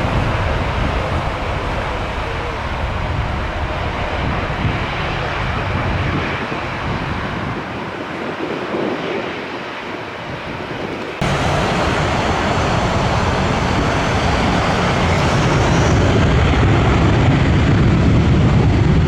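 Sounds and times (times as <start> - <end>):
jet airliner rumble: 0.0 - 19.0
wind buffeting microphone: 0.0 - 19.0.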